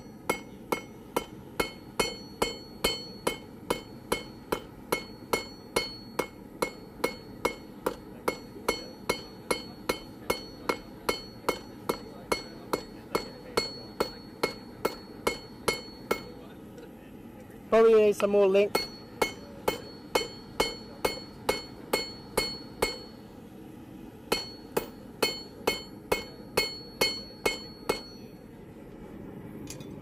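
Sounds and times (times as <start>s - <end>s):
hammer ringing on anvil: 0.0s - 16.4s, 18.7s - 23.3s, 24.3s - 28.4s.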